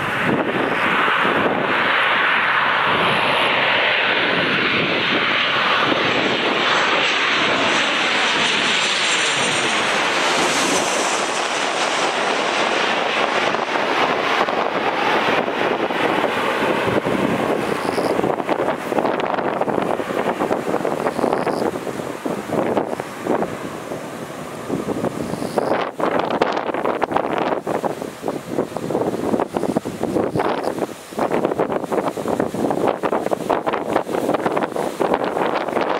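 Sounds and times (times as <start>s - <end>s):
jet engines passing overhead: 0.0s - 35.9s.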